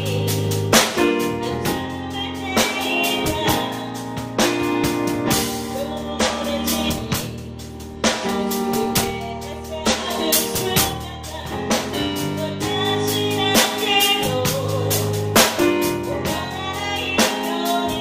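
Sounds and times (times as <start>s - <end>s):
bass and guitar: 0.0s - 18.0s
drum kit beat: 0.0s - 18.0s
woman singing into a microphone: 0.0s - 18.0s.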